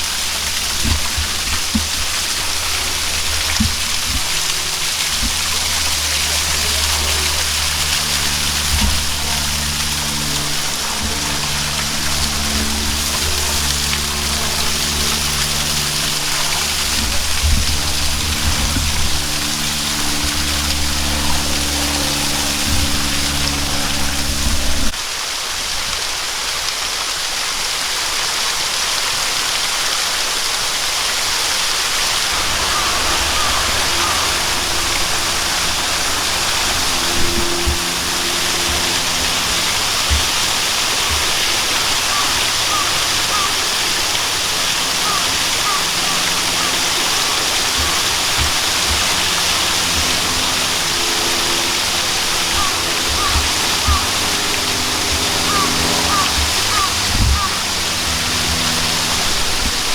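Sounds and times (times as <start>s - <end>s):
low droning hum: 0.0s - 25.0s, 31.9s - 59.9s
waterfall rushing: 0.0s - 59.9s.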